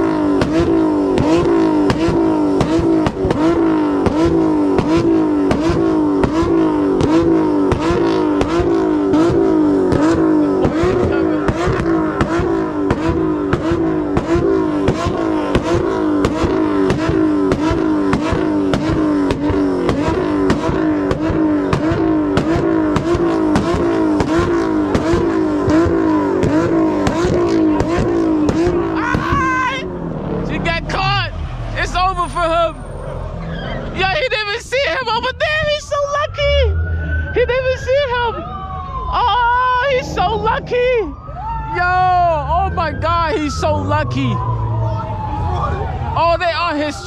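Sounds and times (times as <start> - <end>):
car engine at high revs: 0.0 - 41.2.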